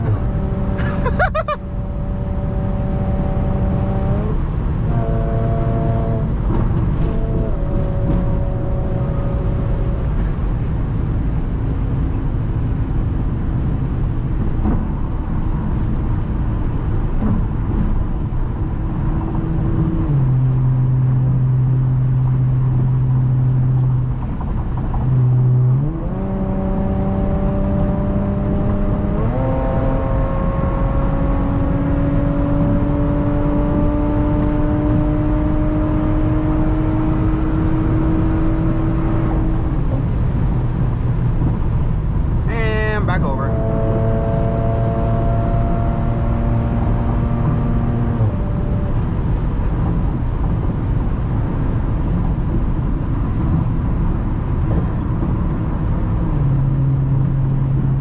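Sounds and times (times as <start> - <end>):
car engine and exhaust accelerating: 0.0 - 58.0.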